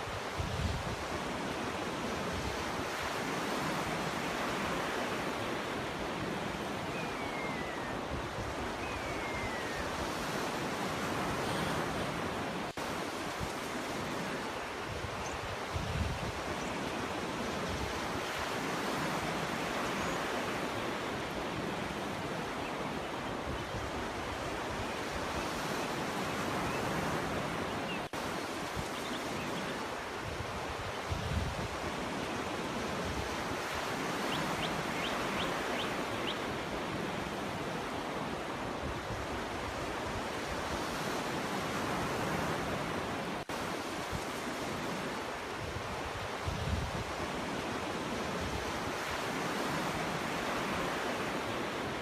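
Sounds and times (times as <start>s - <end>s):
waves breaking on a beach: 0.0s - 52.0s.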